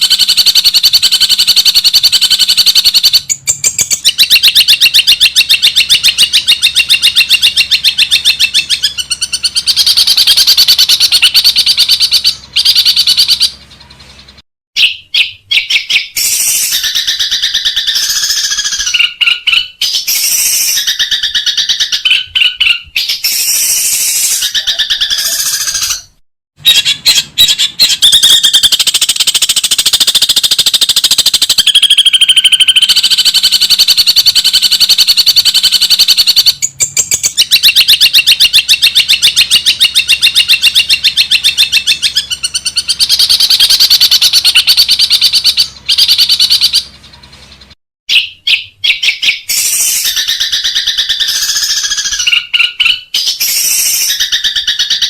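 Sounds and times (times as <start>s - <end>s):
bird call phrases: 0.0s - 55.0s
bird chattering trills: 0.0s - 55.0s.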